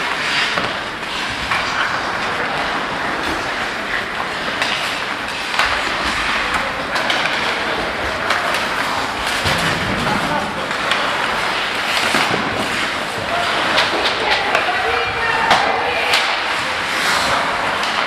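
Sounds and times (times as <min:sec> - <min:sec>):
hockey sticks and puck clacking: 0:00.0 - 0:18.0
skate blades scraping ice: 0:00.0 - 0:18.0.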